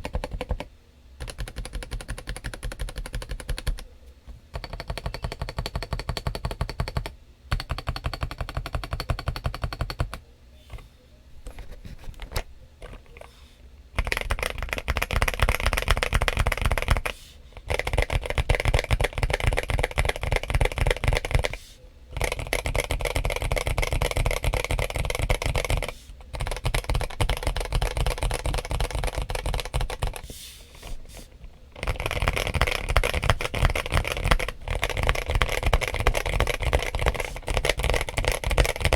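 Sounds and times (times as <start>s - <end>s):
mechanical keyboard typing: 0.0s - 3.8s, 4.5s - 10.2s, 14.0s - 30.2s, 31.7s - 38.9s.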